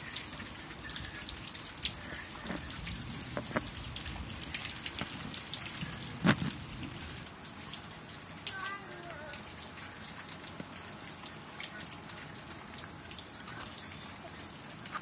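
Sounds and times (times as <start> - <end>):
rain falling: 0.0 - 15.0
raindrops ticking on surfaces: 0.0 - 15.0.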